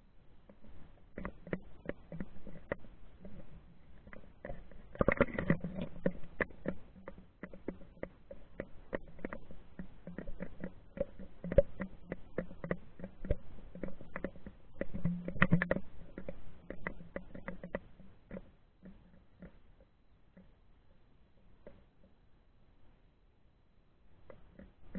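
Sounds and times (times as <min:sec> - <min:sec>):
muffled underwater clicks and knocks: 0:00.3 - 0:22.3, 0:24.2 - 0:24.9.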